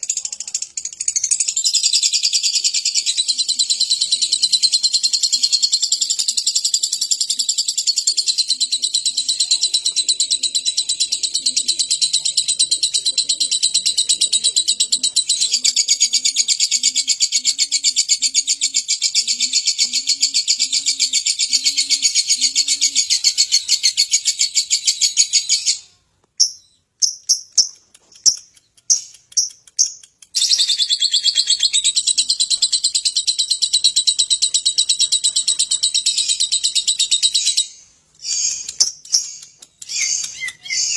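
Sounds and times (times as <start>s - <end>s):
bird chattering trill: 0.0s - 25.8s, 26.4s - 40.9s
bird chirps: 0.0s - 40.9s.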